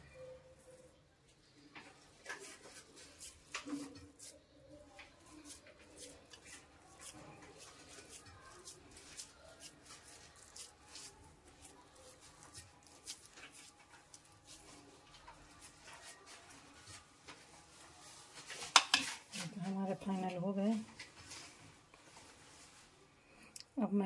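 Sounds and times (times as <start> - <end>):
hands handling kebab mixture: 0.2 - 23.0.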